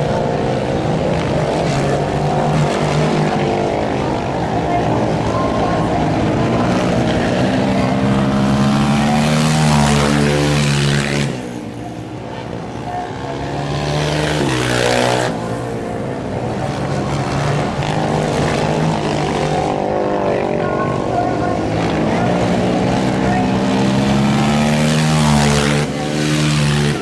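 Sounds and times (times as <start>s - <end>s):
quad bike engines revving: 0.0s - 27.0s.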